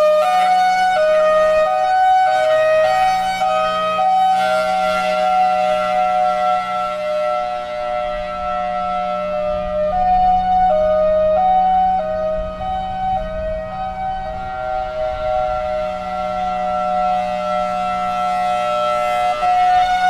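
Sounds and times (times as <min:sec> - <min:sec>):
warning siren hi-lo tones: 0:00.0 - 0:20.0.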